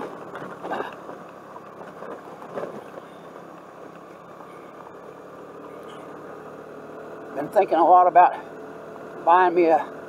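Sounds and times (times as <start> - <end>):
scooter engine: 0.0 - 10.0
tyres on gravel: 0.0 - 10.0.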